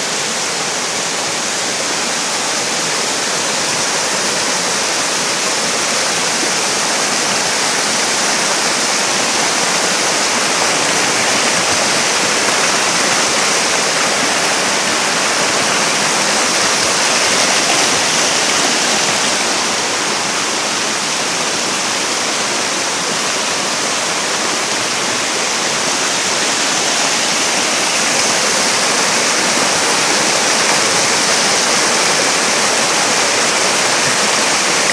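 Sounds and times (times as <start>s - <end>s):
stream water rushing: 0.0s - 34.9s.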